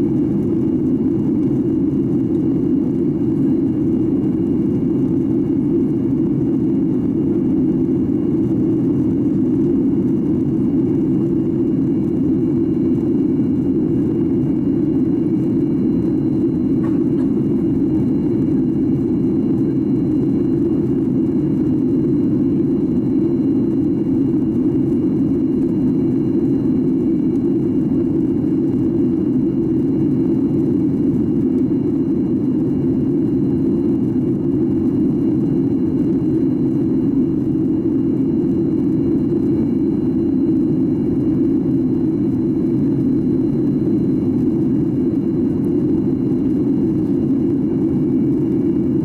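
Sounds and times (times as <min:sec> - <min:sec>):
aircraft cabin hum: 0:00.0 - 0:49.0.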